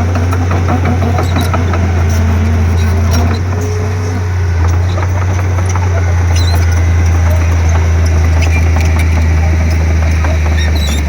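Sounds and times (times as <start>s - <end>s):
bulldozer diesel engine drone: 0.0s - 11.0s
faint high squeaks: 0.8s - 11.0s.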